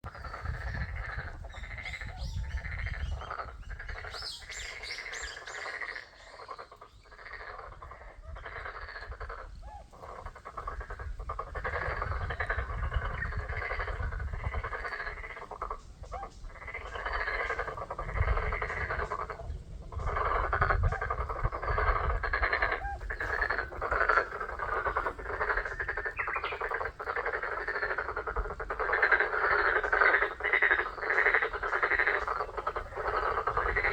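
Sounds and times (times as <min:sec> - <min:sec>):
frogs croaking: 0:00.0 - 0:33.9.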